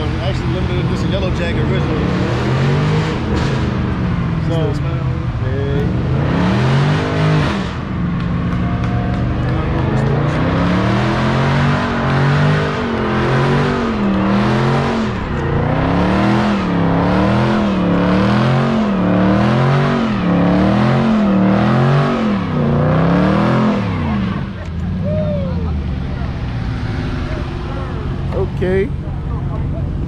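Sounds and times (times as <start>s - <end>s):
engine revving: 0.0s - 30.0s.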